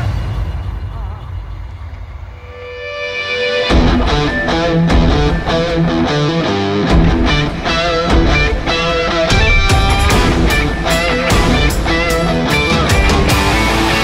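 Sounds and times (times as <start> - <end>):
rock music with electric guitar: 2.5 - 14.0.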